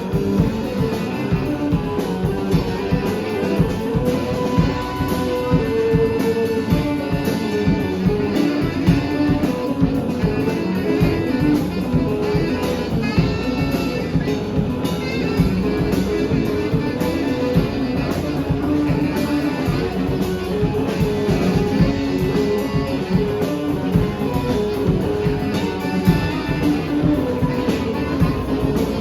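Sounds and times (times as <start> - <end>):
drums steady beat: 0.0 - 29.0
guitar: 0.0 - 29.0
live band instrumental: 0.0 - 29.0.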